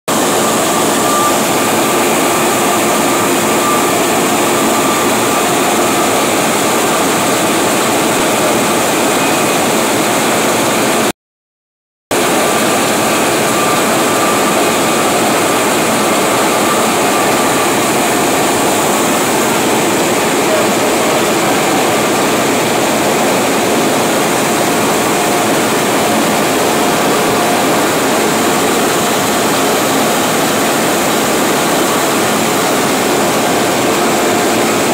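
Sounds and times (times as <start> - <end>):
printing press running: 0.1 - 11.1, 12.1 - 34.9.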